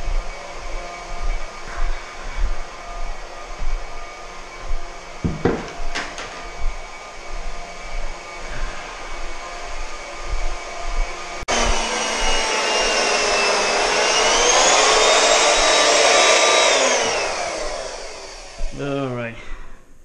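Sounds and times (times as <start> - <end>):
high-speed motor whining: 0.0 - 18.8.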